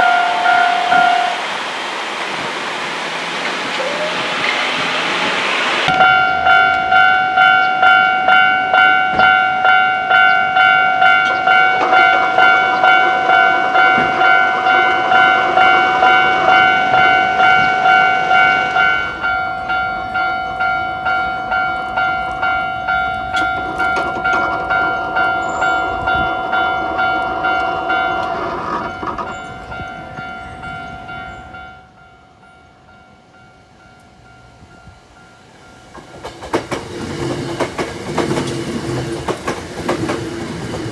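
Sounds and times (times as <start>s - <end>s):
train wheels clacking: 0.0s - 31.6s, 35.7s - 40.9s
level-crossing warning bell ringing: 0.0s - 40.9s.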